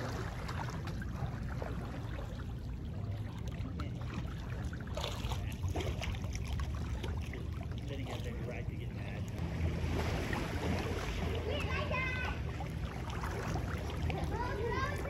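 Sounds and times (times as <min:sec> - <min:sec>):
steady low rumble: 0:00.0 - 0:15.0
swimmers splashing: 0:00.0 - 0:15.0
water lapping: 0:00.0 - 0:15.0.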